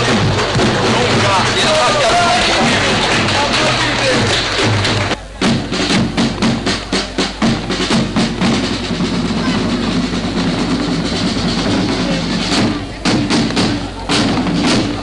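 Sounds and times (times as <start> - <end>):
parade drums beating: 0.0 - 15.0.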